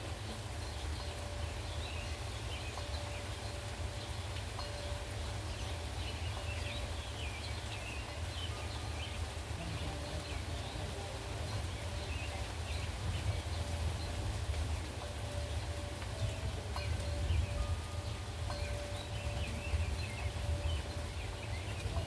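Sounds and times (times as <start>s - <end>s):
small birds chirping: 0.0s - 22.0s
wind rumble: 0.0s - 22.0s.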